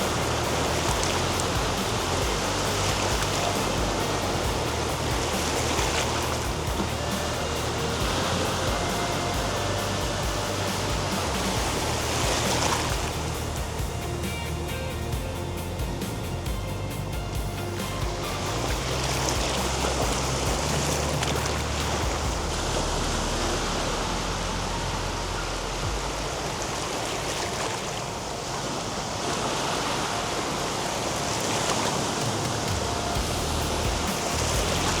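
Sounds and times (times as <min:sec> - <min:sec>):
waves washing onto beach: 0:00.0 - 0:35.0.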